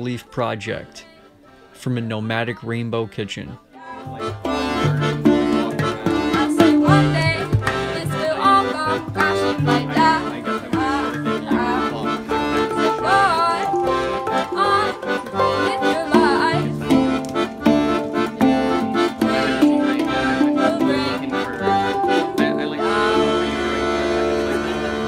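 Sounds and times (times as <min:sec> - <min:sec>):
background music with held chords: 0:03.8 - 0:25.0.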